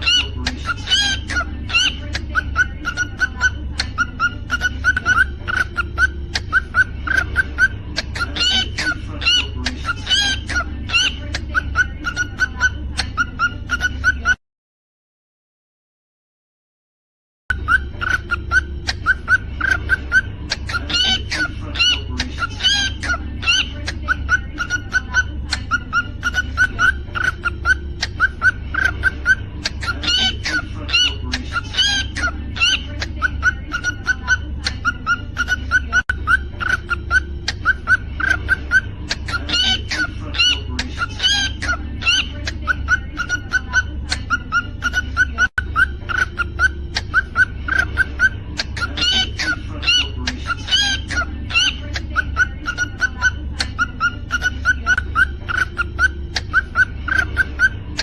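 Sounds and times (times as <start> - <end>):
steady low hum: 0.0 - 14.3, 17.5 - 58.0
cockatiel chirping: 0.0 - 14.4, 17.5 - 58.0
cockatiel whistling: 0.0 - 14.4, 17.5 - 58.0.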